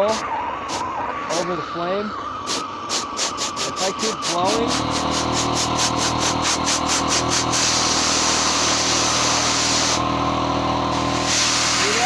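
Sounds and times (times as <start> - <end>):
compressed air hissing: 0.0 - 0.9, 2.4 - 12.0
machine hum: 0.0 - 12.0.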